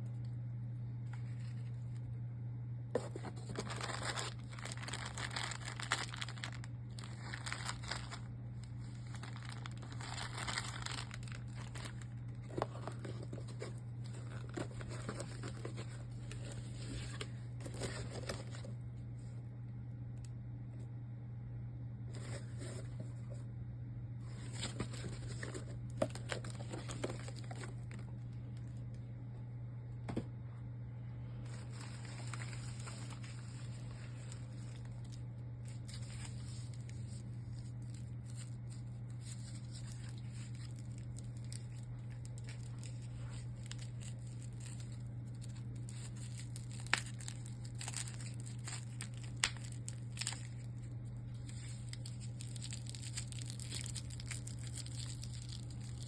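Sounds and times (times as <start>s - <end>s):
steady low hum: 0.0s - 56.0s
wrapping crinkling and tearing: 3.0s - 18.7s, 24.2s - 28.9s, 31.4s - 56.0s.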